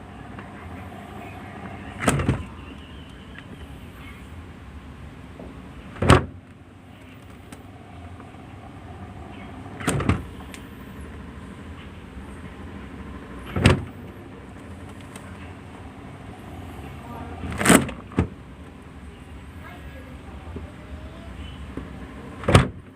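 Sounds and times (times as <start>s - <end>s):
low background noise: 0.0s - 22.9s.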